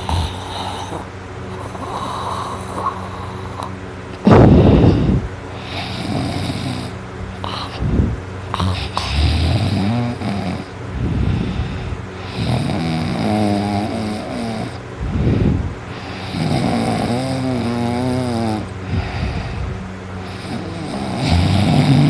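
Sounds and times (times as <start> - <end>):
noisy breath: 0.0 - 22.0
person snoring: 0.0 - 22.0.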